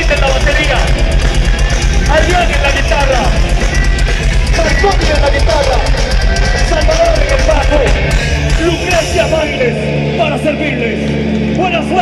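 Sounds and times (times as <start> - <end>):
punk rock band playing: 0.0 - 12.0.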